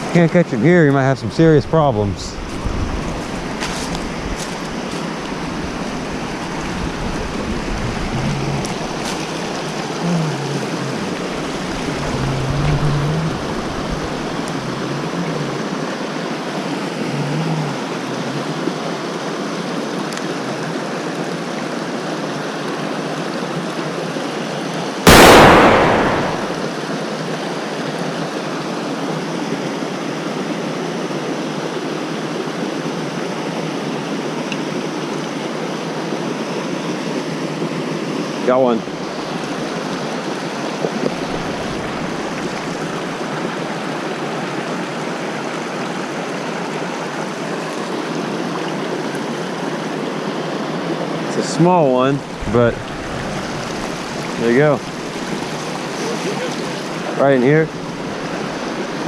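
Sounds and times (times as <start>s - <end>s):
creek flowing: 0.0s - 59.0s.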